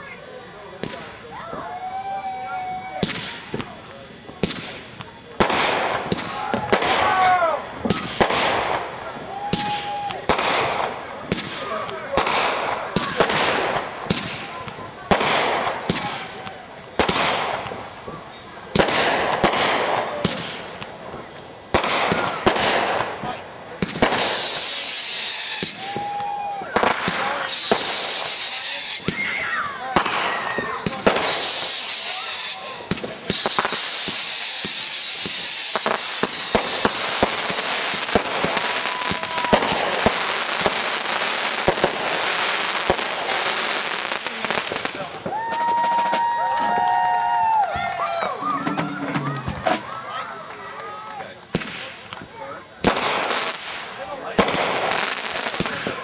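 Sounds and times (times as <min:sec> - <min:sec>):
crackling hiss: 0:00.0 - 0:46.4, 0:51.4 - 0:56.0
fireworks bangs: 0:00.0 - 0:56.0
falling firework whistles: 0:00.7 - 0:47.5.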